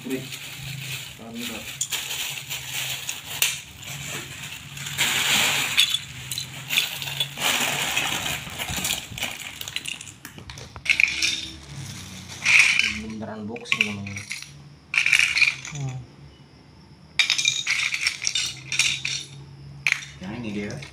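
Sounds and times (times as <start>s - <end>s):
plastic bricks clattering: 0.1s - 16.0s, 17.2s - 20.9s.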